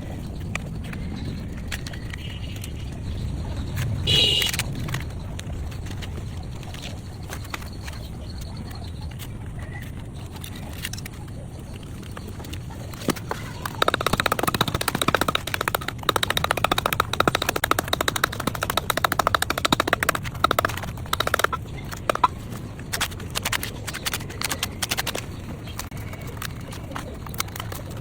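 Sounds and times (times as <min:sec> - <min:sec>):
sharp wooden clicks and knocks: 0:00.0 - 0:28.0.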